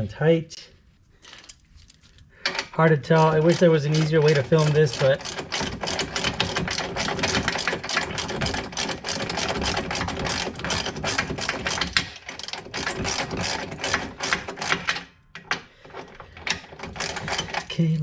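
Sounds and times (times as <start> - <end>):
hand ratchet clicking: 2.4 - 18.0.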